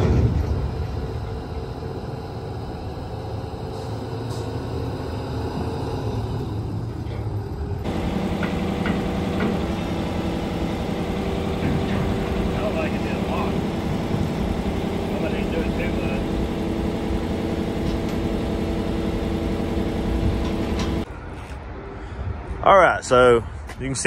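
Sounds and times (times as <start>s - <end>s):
diesel engine running: 0.0s - 21.1s.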